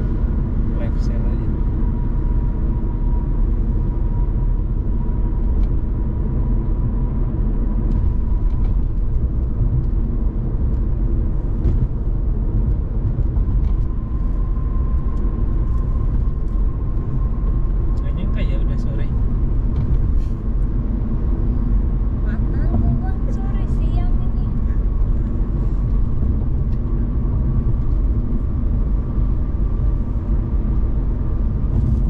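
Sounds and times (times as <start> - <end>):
tyre rumble and engine: 0.0 - 32.0.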